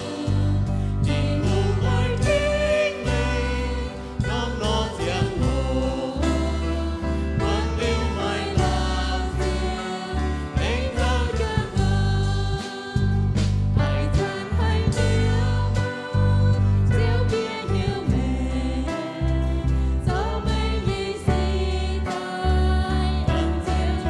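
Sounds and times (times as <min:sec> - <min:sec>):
several voices singing a hymn: 0:00.0 - 0:24.0
steady low bass: 0:00.0 - 0:24.0
sustained instrumental accompaniment: 0:00.0 - 0:24.0.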